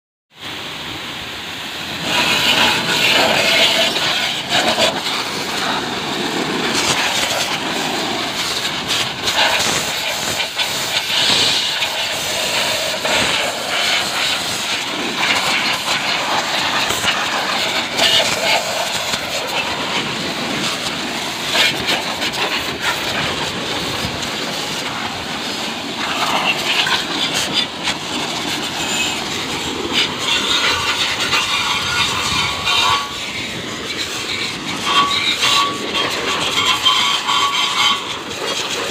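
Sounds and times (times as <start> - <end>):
high-pressure water jet hissing: 0.4 - 38.9.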